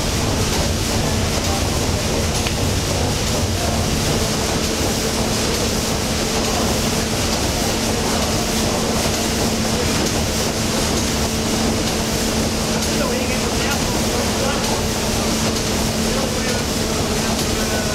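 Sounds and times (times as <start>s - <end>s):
steam engine running: 0.0s - 17.9s.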